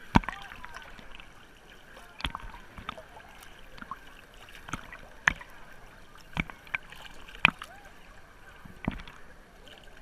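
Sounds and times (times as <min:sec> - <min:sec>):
water slapping camera: 0:00.0 - 0:10.0
water sloshing: 0:00.0 - 0:10.0.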